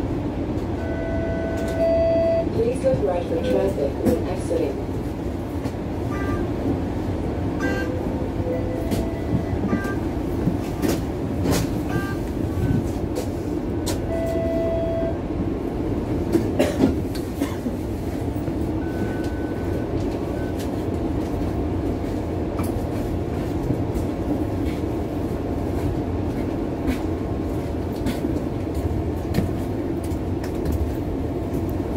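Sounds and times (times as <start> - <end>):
streetcar cabin rumble: 0.0 - 31.9.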